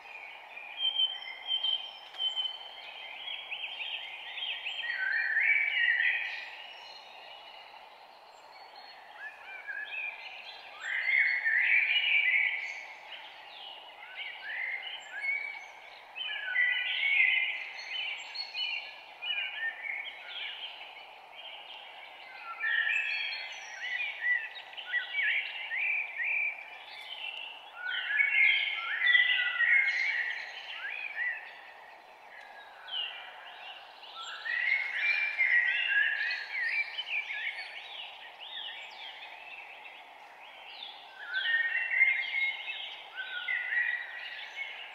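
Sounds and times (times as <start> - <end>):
low background hiss: 0.0 - 44.9
songbirds chirping: 0.0 - 44.9.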